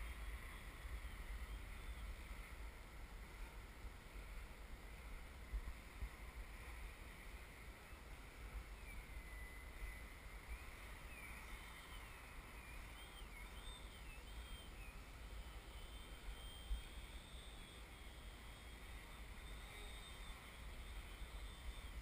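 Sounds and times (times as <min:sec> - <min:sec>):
model airplane motor whining: 0:00.0 - 0:22.0.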